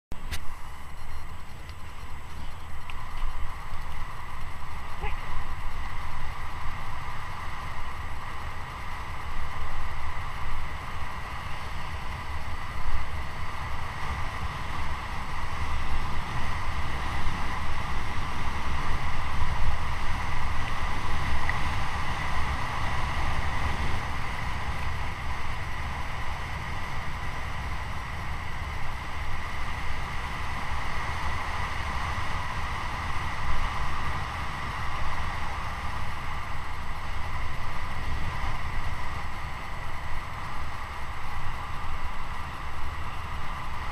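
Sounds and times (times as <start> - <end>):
tyres rolling on asphalt: 0.2 - 43.9.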